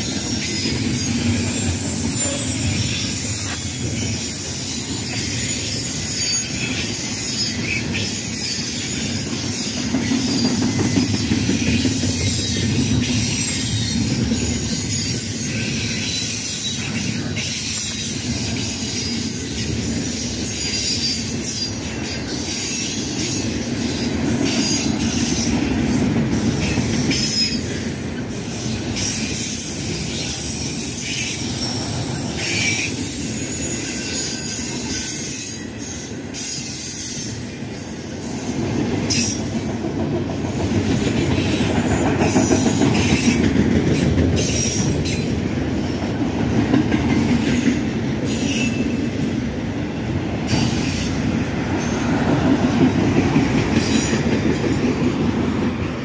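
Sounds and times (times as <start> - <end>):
high wheel squeal: 0.0 - 39.9, 40.6 - 49.2, 50.3 - 54.9
train wheels rumbling on rail: 0.0 - 56.0.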